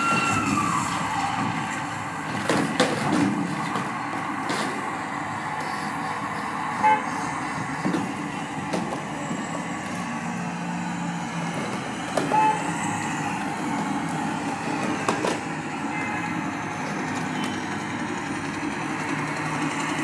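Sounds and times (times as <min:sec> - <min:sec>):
traffic rumble and hiss: 0:00.0 - 0:20.0.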